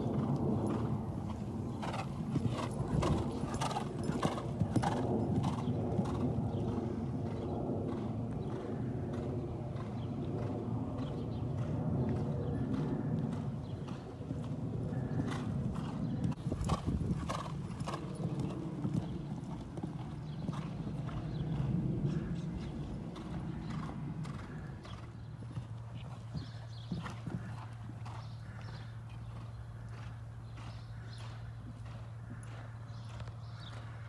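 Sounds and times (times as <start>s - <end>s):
horse hoofbeats on sand: 0.0s - 34.0s
steady low hum: 0.0s - 34.0s.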